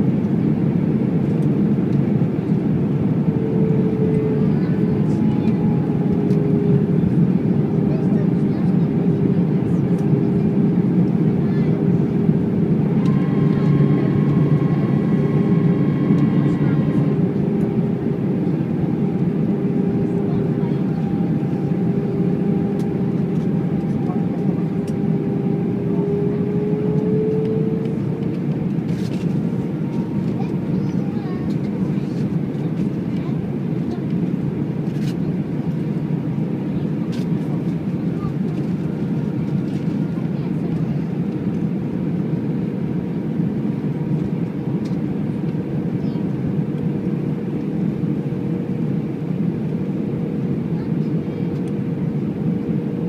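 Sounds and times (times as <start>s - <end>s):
airplane cabin roar of jet engines: 0.0s - 53.0s.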